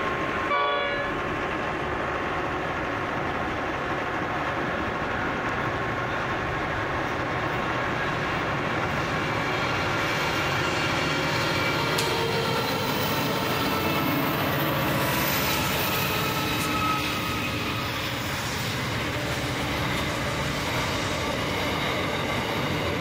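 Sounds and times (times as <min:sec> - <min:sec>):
approaching freight train: 0:00.0 - 0:23.0
diesel locomotives idling: 0:00.0 - 0:23.0.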